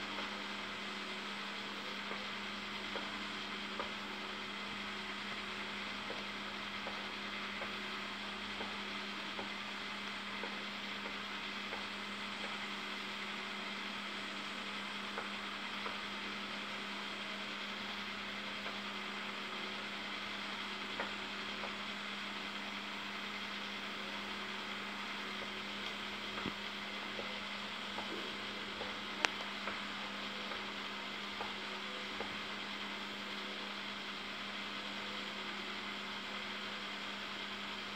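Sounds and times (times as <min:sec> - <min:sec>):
electrical hum: 0:00.0 - 0:37.9.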